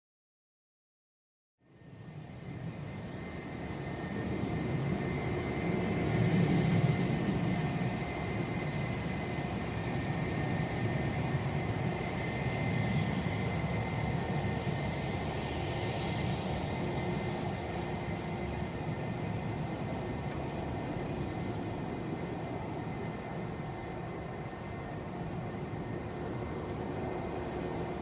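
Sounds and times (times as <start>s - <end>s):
jet engines whining: 2.1s - 28.0s.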